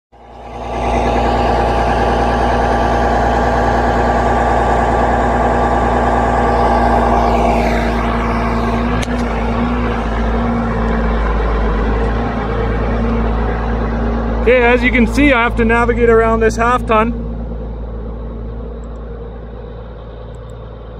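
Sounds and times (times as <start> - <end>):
tractor diesel engine running: 0.1 - 20.9.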